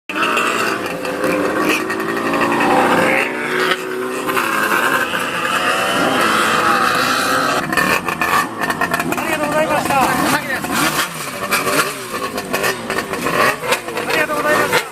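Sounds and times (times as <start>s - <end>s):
motorcycle engines revving: 0.1s - 14.9s.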